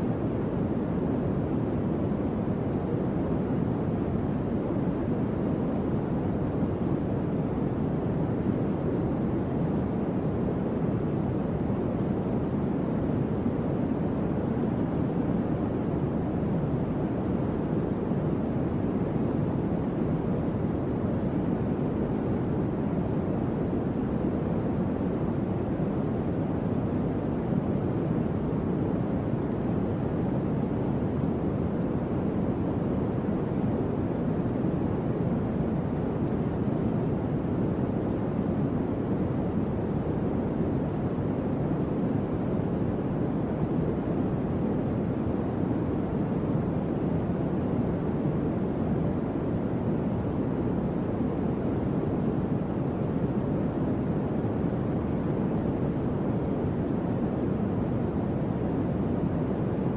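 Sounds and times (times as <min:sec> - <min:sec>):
electric fan whooshing air: 0:00.0 - 0:59.9.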